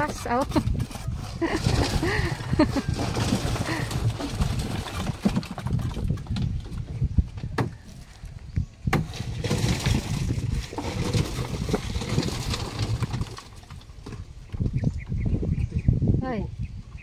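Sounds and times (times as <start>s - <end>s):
rough scraping: 0.0s - 14.9s.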